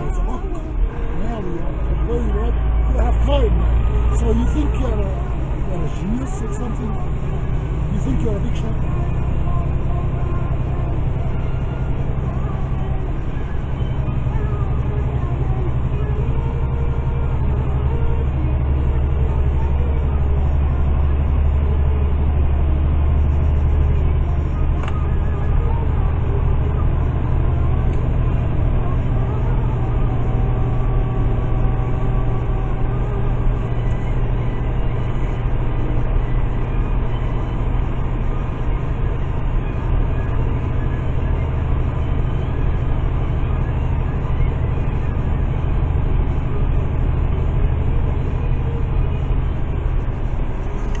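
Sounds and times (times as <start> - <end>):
truck diesel engine drone: 0.0 - 51.0.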